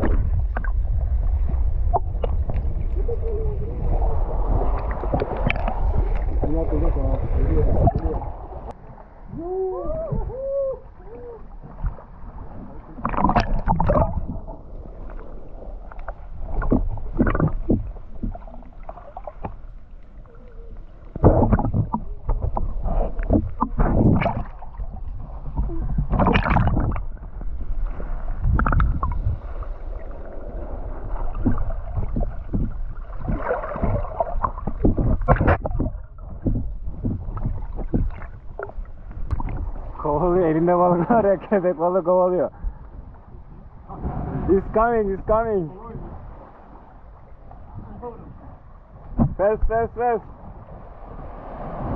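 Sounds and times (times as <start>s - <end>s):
water sloshing and splashing: 0.0s - 41.6s, 42.8s - 51.9s.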